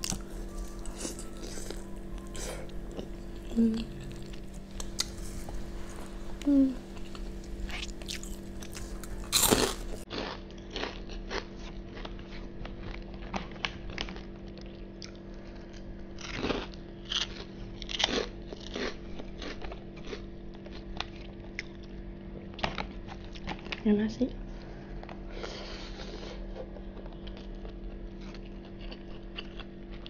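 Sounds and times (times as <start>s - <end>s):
person chewing and biting: 0.0s - 21.9s, 26.6s - 30.0s
food crunching: 0.0s - 23.8s, 26.5s - 30.0s.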